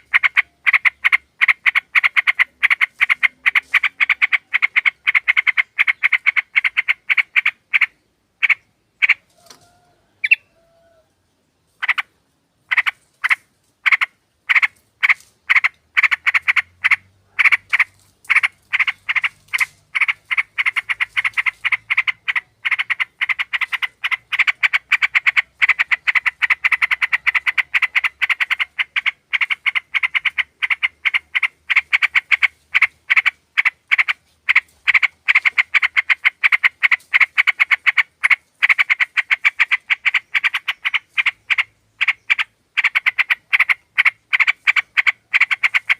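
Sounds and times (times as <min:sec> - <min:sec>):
bulbuls calling: 0:00.0 - 0:11.0, 0:11.8 - 0:45.9.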